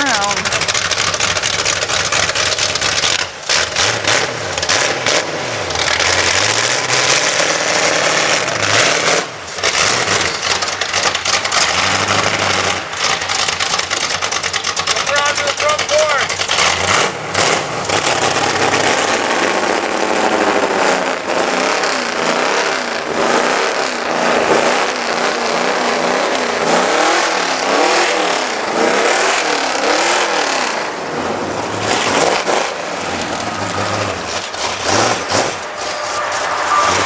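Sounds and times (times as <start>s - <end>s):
vehicle engine revving: 0.0s - 37.0s.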